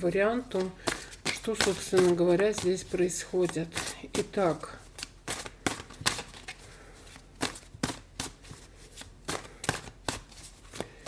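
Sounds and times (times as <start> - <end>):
cards snapping and slapping: 0.5 - 4.3, 5.0 - 6.6, 7.4 - 11.0.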